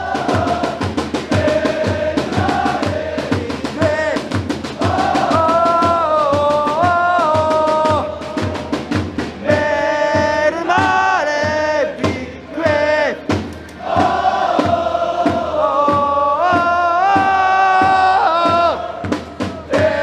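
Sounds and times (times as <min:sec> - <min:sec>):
crowd chanting a song: 0:00.0 - 0:20.0
steady drumbeat: 0:00.0 - 0:20.0.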